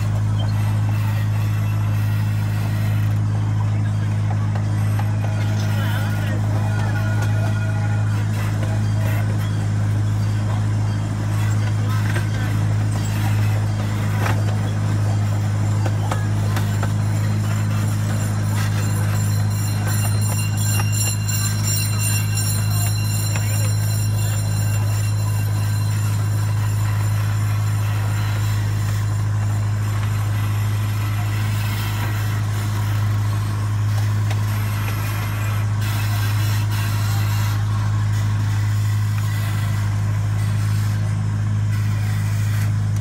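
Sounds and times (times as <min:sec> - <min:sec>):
small train steady low hum: 0:00.0 - 0:43.0.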